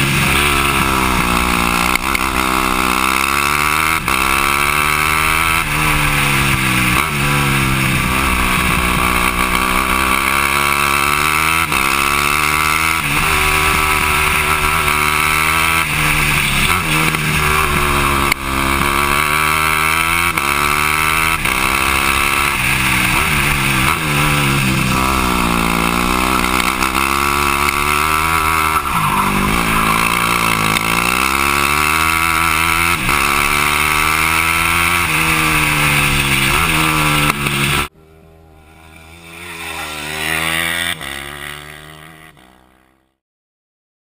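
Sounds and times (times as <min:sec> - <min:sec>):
go-kart engine revving onboard: 0:00.0 - 0:43.0
kart engine passing by: 0:00.0 - 0:43.1.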